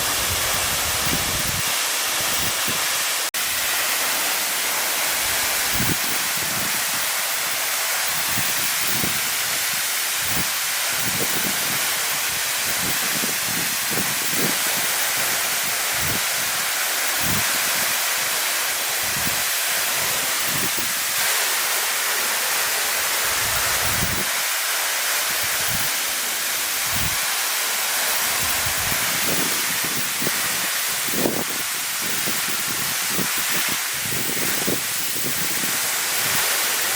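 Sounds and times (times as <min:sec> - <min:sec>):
low buffets of falling water: 0:00.0 - 0:36.9
waterfall rushing hiss: 0:00.0 - 0:36.9.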